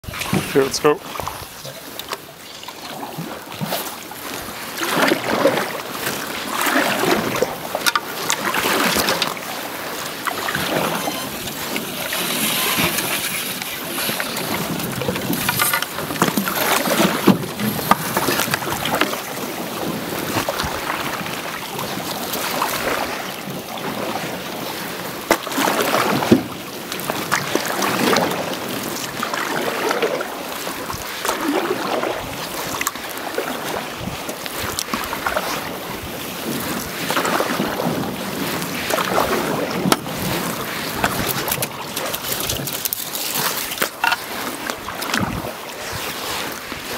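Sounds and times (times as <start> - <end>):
paddles swishing through water: 0.0 - 46.9
water washing along hull: 0.0 - 46.9.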